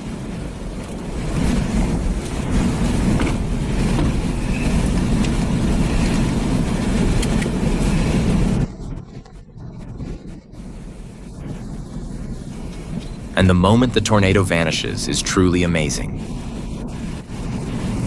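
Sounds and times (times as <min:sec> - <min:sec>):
car engine rumble: 0:00.0 - 0:18.0
gusty wind: 0:00.0 - 0:18.0
road noise: 0:00.0 - 0:18.0.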